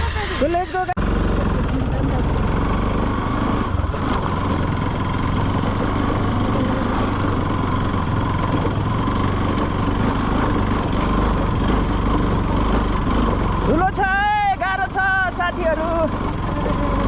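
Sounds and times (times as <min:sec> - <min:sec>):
road and wind noise: 0:00.0 - 0:17.0
vehicle engine running: 0:00.0 - 0:17.0.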